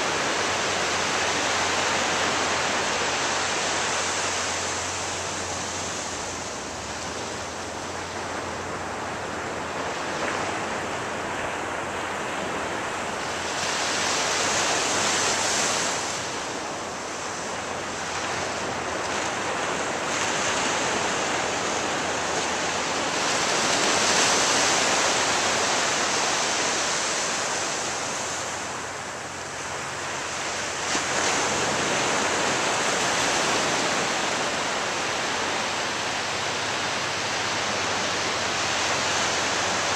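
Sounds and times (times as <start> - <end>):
ocean waves on beach: 0.0 - 39.9.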